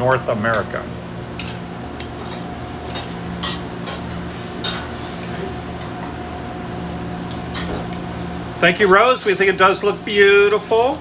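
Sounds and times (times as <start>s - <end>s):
kitchen hum: 0.0s - 11.0s.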